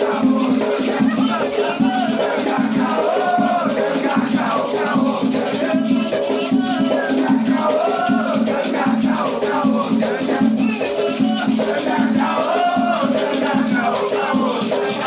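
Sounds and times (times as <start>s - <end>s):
shaken rattle: 0.0s - 15.0s
voices singing a chant: 0.0s - 15.0s.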